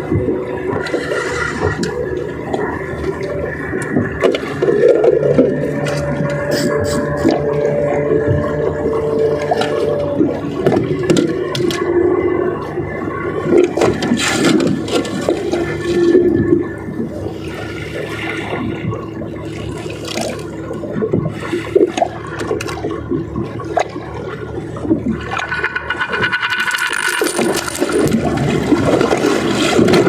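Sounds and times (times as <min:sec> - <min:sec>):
low hum: 0:00.0 - 0:30.0
water sloshing and splashing: 0:00.0 - 0:30.0.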